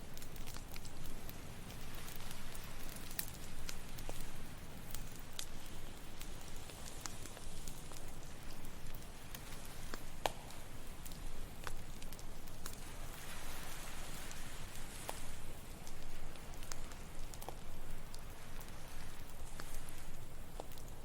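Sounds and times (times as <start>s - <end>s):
campfire crackling: 0.0s - 21.0s
fire pops and snaps: 0.0s - 21.0s.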